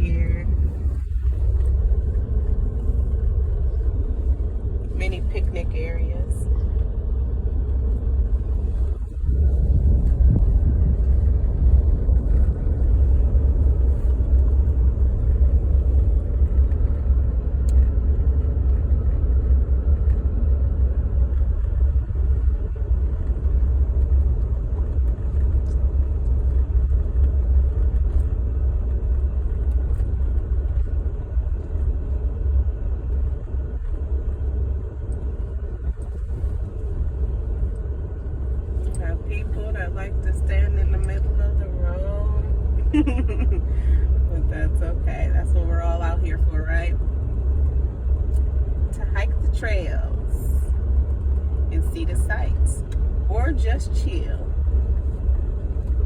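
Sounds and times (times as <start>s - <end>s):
road rumble inside vehicle: 0.0s - 56.0s
vehicle engine noise: 0.0s - 56.0s.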